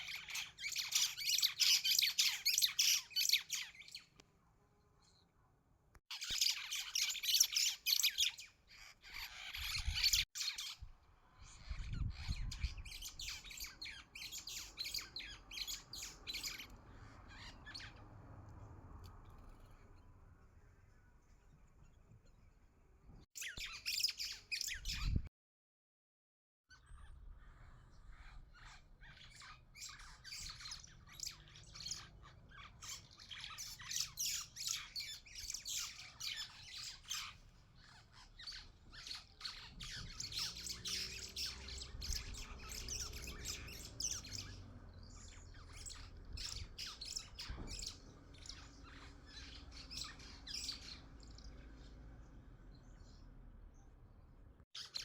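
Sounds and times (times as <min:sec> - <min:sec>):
birds chirping and squawking: 0:00.0 - 0:04.2, 0:06.1 - 0:18.4, 0:23.4 - 0:25.3, 0:26.7 - 0:53.8, 0:54.8 - 0:55.0.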